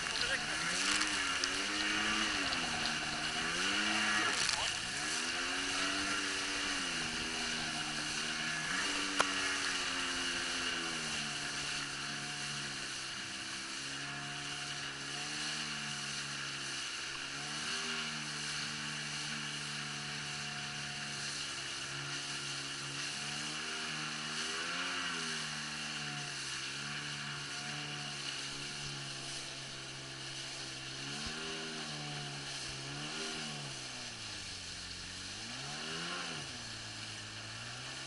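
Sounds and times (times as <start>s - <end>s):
jet ski engine running: 0.0s - 38.0s
water rushing: 0.0s - 38.0s.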